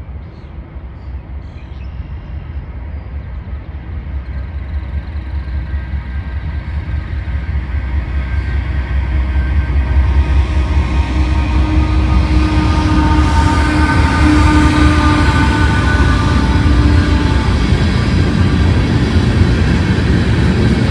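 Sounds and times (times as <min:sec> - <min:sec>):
diesel train rumble: 0:00.0 - 0:20.9.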